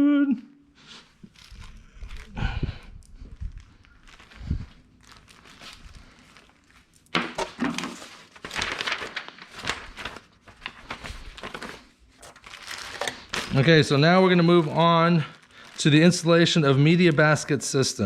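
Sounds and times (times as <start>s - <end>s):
packaging crinkling and rustling: 0.9s - 17.5s.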